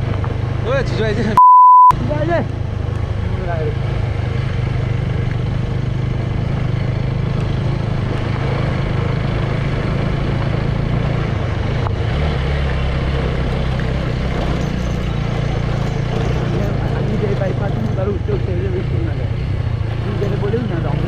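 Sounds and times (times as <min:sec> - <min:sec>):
road and wind noise: 0:00.0 - 0:21.0
motorbike engine running: 0:02.0 - 0:21.0.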